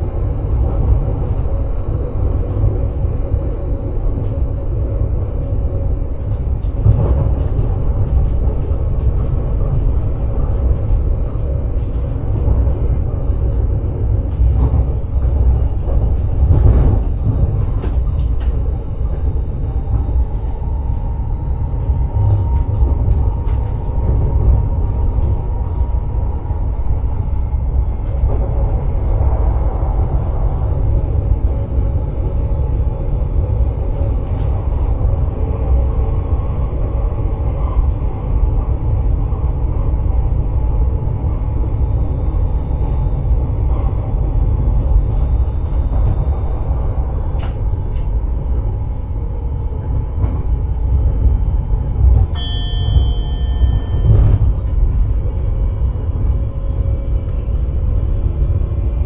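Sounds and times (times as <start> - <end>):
train rumbling along: 0.0 - 59.0.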